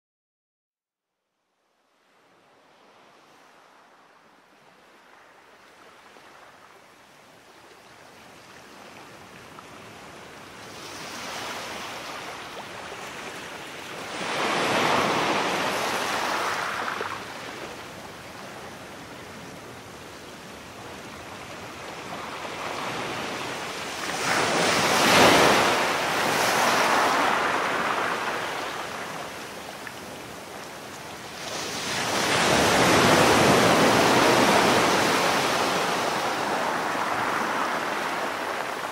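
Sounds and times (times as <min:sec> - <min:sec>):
ocean surf washing up beach: 0:07.8 - 0:38.9.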